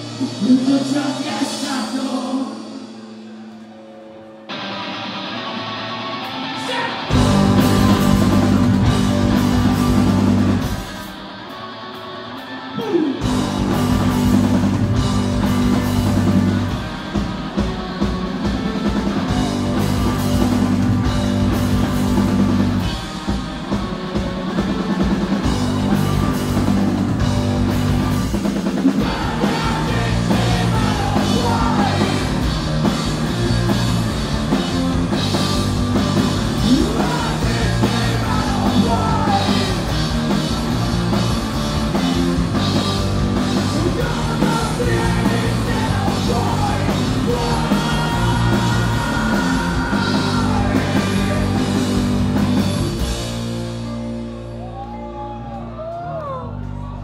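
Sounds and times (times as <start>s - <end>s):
electric guitars: 0.0s - 57.0s
bass guitar: 4.3s - 57.0s
drum kit: 6.7s - 11.3s, 12.8s - 55.0s.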